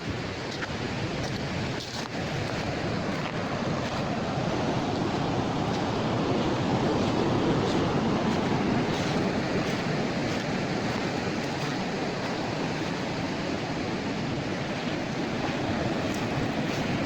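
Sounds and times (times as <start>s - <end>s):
waves breaking on a beach: 0.0s - 17.0s.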